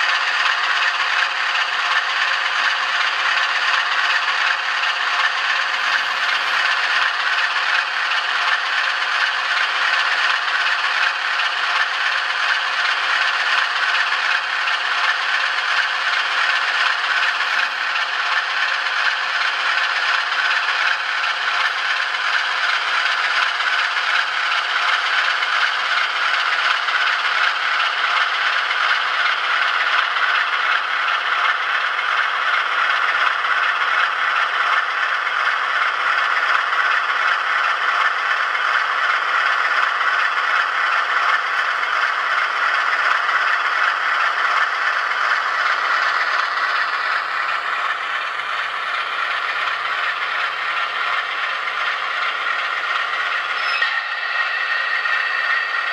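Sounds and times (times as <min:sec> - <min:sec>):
rattly diesel engine from tiny speaker: 0:00.0 - 0:55.9.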